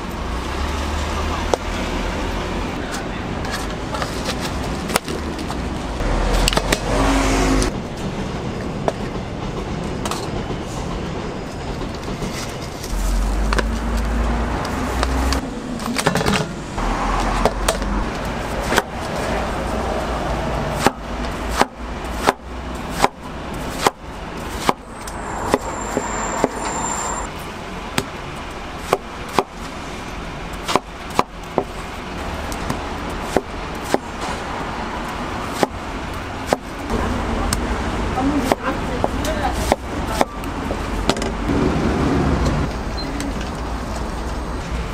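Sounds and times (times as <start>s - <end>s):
steady background noise: 0.0s - 44.9s.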